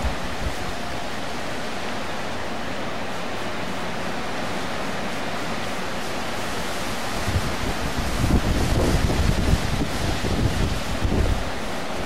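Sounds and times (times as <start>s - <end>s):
strong wind rushing through trees: 0.0s - 12.0s.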